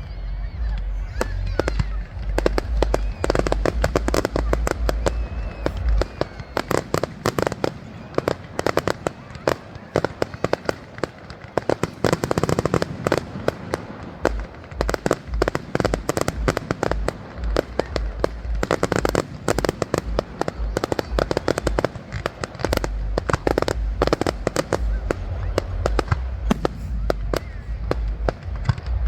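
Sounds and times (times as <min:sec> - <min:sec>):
deep fireworks booms: 0:00.0 - 0:29.0
fireworks cracking and banging: 0:00.0 - 0:29.0.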